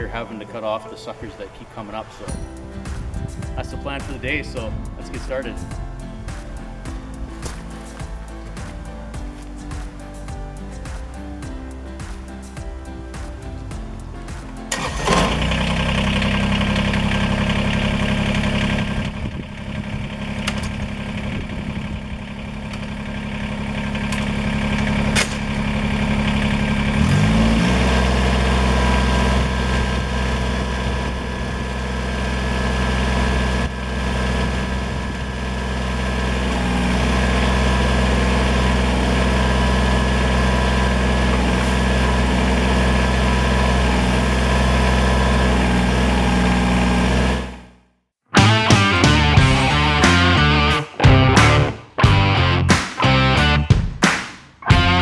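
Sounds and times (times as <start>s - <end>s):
tractor diesel engine running: 0.0s - 47.8s, 48.4s - 53.8s, 54.7s - 55.0s.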